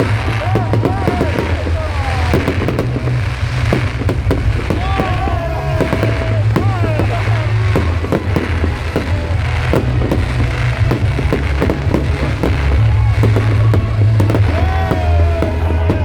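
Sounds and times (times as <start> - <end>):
fireworks bangs and crackles: 0.0 - 16.0
low rumble: 0.0 - 16.0
whistling rockets: 0.0 - 16.0.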